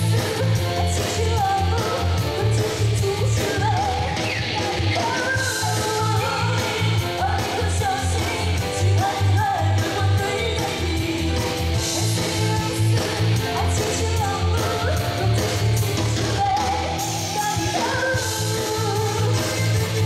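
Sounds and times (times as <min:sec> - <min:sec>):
live band playing pop dance song: 0:00.0 - 0:20.0.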